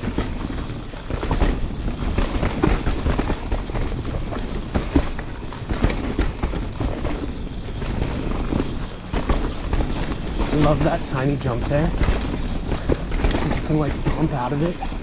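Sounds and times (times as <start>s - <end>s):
bike rattling clicks and knocks: 0.0s - 15.0s
bike tyres over roots and rocks: 0.0s - 15.0s.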